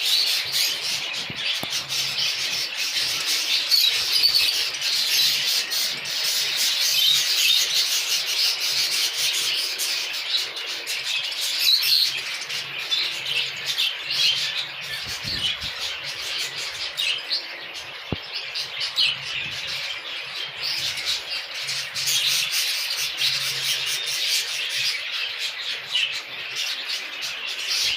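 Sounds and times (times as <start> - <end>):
budgerigars chirping: 0.0 - 27.9.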